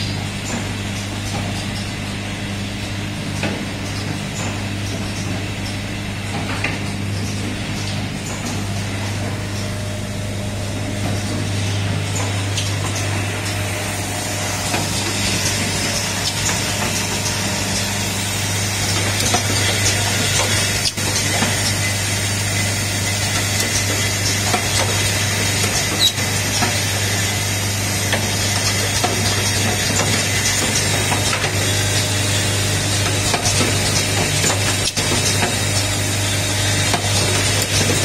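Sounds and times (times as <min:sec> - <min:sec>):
pneumatic clicks and clacks: 0:00.0 - 0:02.0, 0:03.3 - 0:10.0, 0:10.7 - 0:38.0
machine humming: 0:00.0 - 0:38.0.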